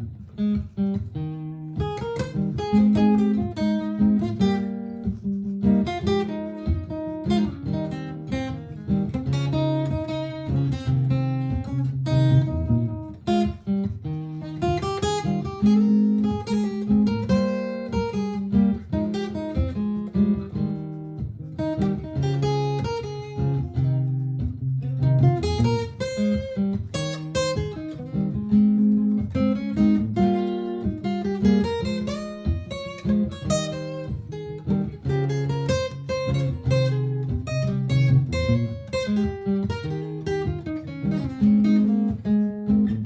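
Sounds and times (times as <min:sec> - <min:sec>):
acoustic guitar picked and strummed: 0:00.0 - 0:43.0
looped guitar part with low notes: 0:00.0 - 0:43.0.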